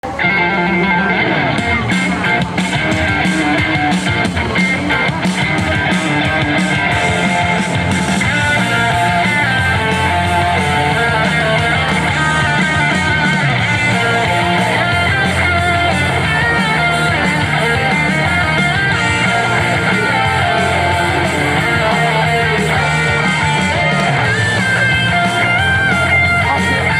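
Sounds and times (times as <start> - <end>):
rock music with guitar: 0.0 - 26.9
steady drum beat: 1.6 - 26.9.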